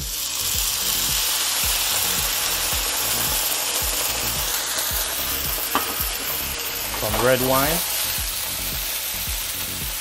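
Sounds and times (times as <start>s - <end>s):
wine hissing in a hot pan: 0.0s - 10.0s.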